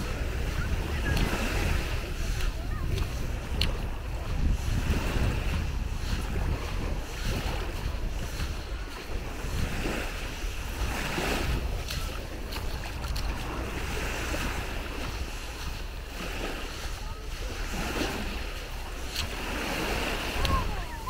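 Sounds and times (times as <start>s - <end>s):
small waves washing onto sand: 0.0s - 21.0s
wind buffeting microphone: 0.0s - 21.0s.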